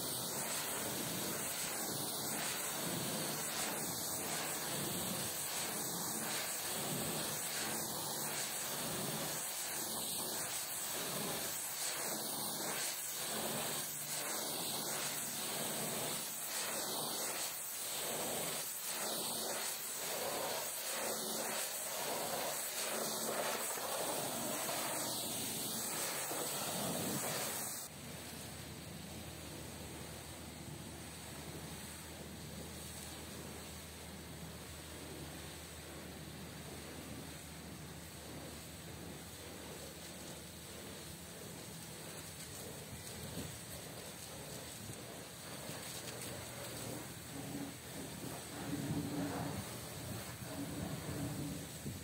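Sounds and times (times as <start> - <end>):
pressure washer spray hissing: 0.0 - 28.5, 38.6 - 52.0.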